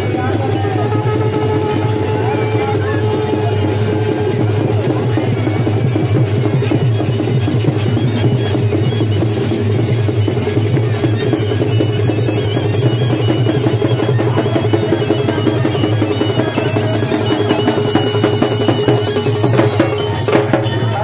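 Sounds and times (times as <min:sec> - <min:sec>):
loud fast drumming: 0:00.0 - 0:21.0
music: 0:00.0 - 0:21.0.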